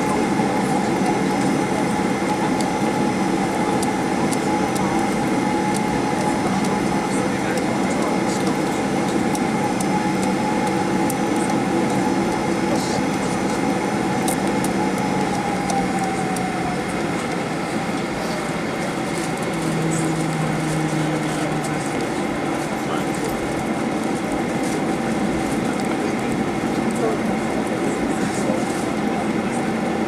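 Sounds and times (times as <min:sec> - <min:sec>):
airplane cabin rumble and hiss: 0:00.0 - 0:30.0.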